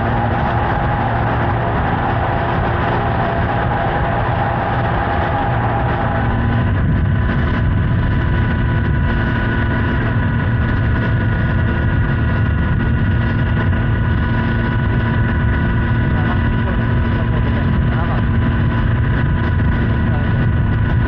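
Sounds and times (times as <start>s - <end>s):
motorcycle engine cruising: 0.0s - 21.0s
wind rush over microphone: 0.0s - 21.0s.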